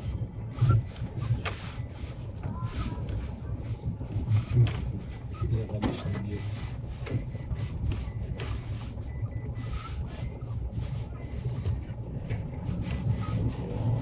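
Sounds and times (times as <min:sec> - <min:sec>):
engine and drivetrain rumble: 0:00.0 - 0:14.0.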